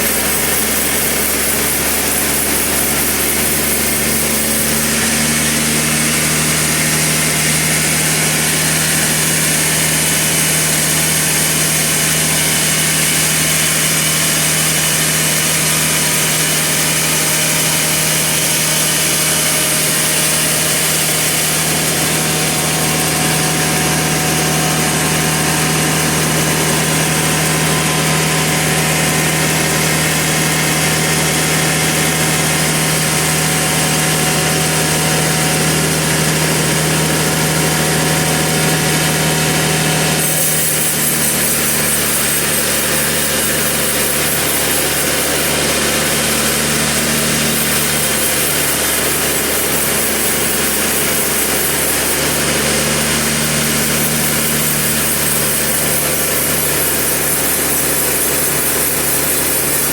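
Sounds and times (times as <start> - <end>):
motor hum: 0.0 - 59.9
saw cutting log: 0.0 - 59.9.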